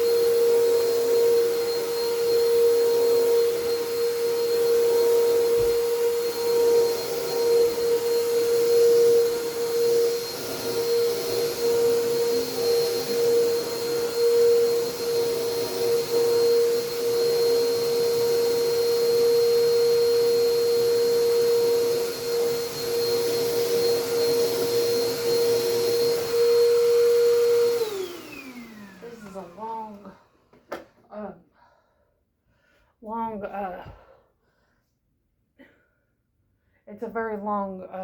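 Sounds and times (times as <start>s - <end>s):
vacuum cleaner running: 0.0s - 31.3s.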